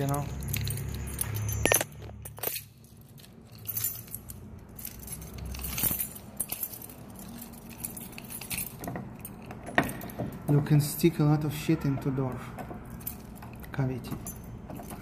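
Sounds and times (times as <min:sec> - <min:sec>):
keys jangling: 0:00.0 - 0:15.0.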